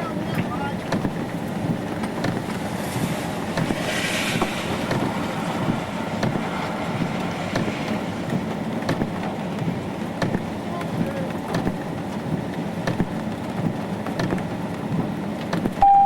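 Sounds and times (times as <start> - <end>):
storm wind and rain: 0.0 - 15.8.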